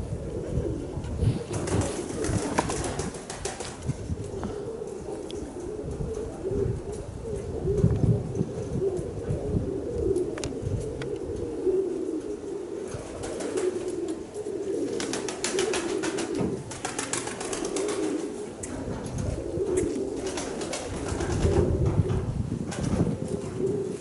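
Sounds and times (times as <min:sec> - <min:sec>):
pigeons cooing: 0:00.0 - 0:24.0
wind buffeting microphone: 0:00.0 - 0:24.0.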